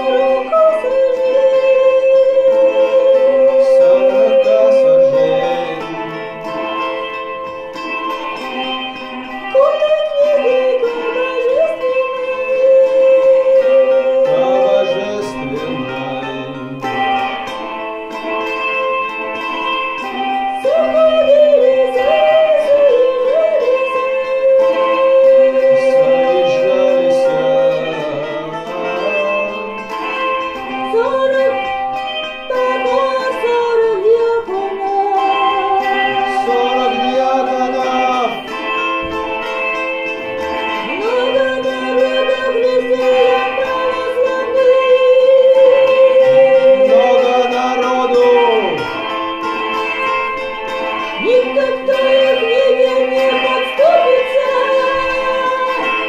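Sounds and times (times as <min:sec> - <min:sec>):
woman singing: 0:00.0 - 0:07.2, 0:07.8 - 0:18.6, 0:19.2 - 0:39.4, 0:40.3 - 0:49.0, 0:50.7 - 0:56.0
instrumental drone: 0:00.0 - 0:56.0.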